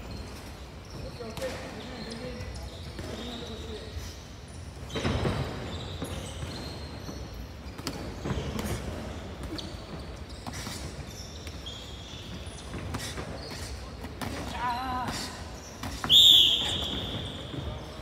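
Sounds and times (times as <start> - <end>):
shoe squeaks on floor: 0.0 - 18.0.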